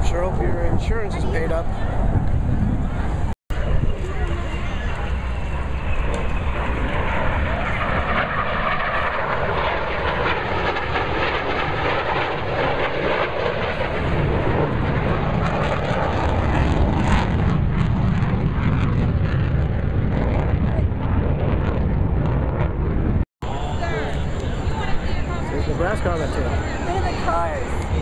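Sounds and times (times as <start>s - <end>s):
jet engine flying past: 0.0s - 28.0s.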